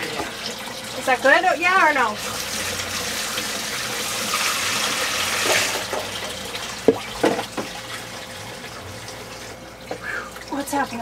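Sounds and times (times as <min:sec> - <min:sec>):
water splashing into sink: 0:00.0 - 0:10.7.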